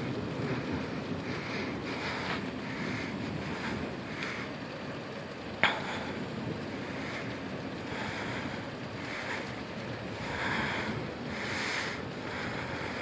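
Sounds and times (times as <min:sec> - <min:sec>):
light rain: 0:00.0 - 0:13.0
steady wind: 0:00.0 - 0:13.0.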